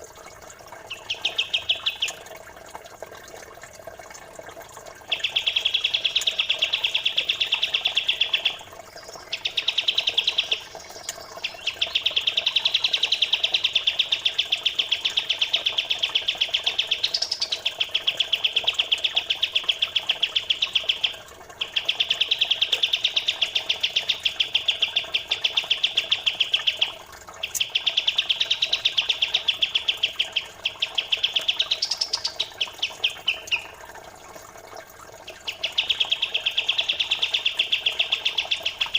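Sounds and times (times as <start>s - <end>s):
songbirds chattering: 0.8s - 2.3s, 5.0s - 33.9s, 35.3s - 38.9s.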